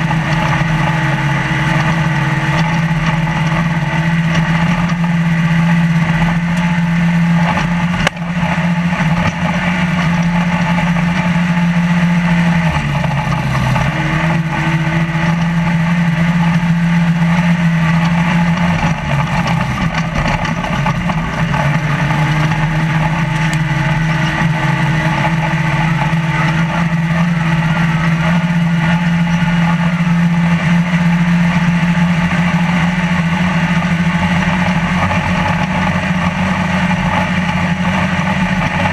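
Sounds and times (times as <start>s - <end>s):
rattling and road noise: 0.0s - 38.9s
truck engine running hard: 0.0s - 38.9s.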